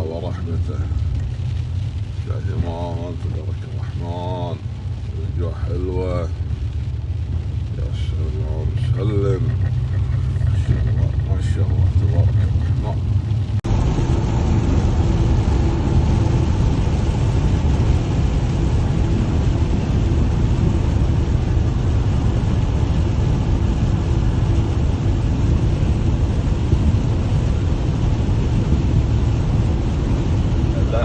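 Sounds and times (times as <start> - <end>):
car driving road noise: 0.0 - 31.0.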